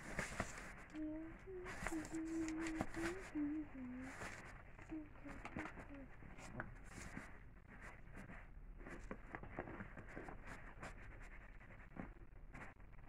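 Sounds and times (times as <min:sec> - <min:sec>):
scratching and rustling on fabric: 0:00.0 - 0:13.0
small irregular clicks: 0:00.0 - 0:13.0.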